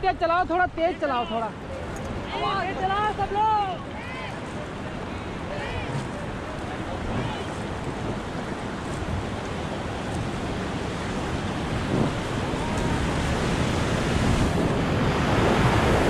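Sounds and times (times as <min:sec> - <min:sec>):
river whitewater rushing: 0:00.0 - 0:16.0
wind buffeting microphone: 0:01.5 - 0:16.0.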